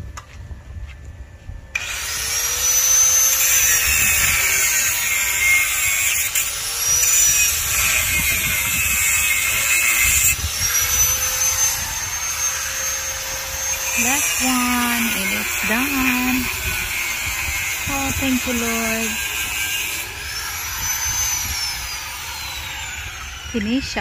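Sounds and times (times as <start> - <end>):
electric drill whining on steel: 1.7 - 24.0.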